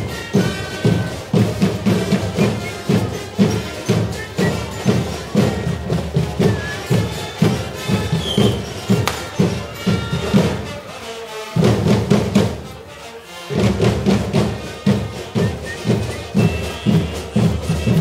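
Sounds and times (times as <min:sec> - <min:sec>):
loud steady drumbeat: 0:00.0 - 0:12.9, 0:13.5 - 0:18.0
live band music: 0:00.0 - 0:18.0.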